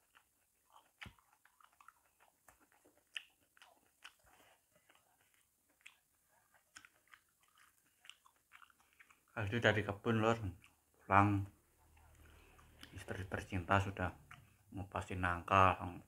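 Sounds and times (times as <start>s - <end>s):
wet chewing and lip-smacking: 0.0s - 11.0s, 11.8s - 14.8s.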